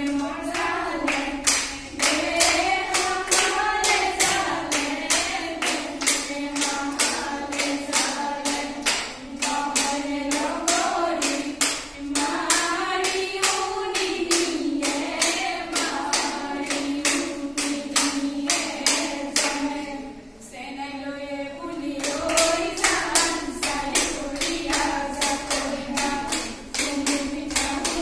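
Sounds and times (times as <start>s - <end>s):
sharp rhythmic claps: 0.0s - 20.0s, 21.8s - 28.0s
women singing in unison: 0.0s - 28.0s.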